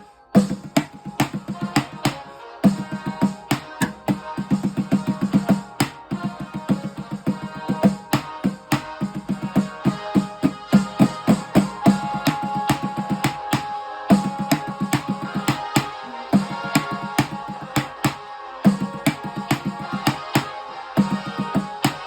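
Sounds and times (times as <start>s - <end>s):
fast drum and percussion rhythm: 0.4s - 22.0s.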